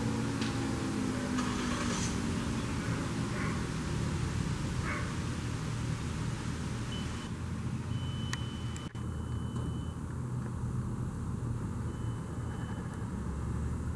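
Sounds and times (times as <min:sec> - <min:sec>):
low rumble of traffic: 0:00.0 - 0:13.9.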